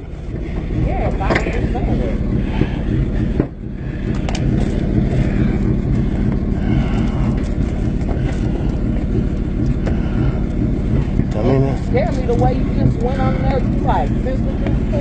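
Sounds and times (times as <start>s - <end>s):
truck engine idling with loud exhaust: 0.0s - 15.0s.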